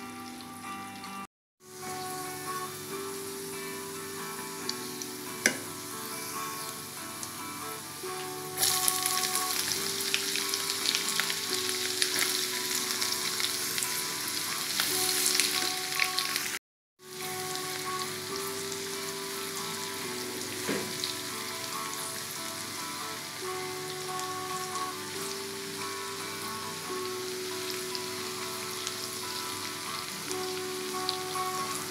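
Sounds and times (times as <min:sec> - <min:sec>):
food sizzling in hot oil: 0:00.0 - 0:31.9
soft background music: 0:00.0 - 0:31.9.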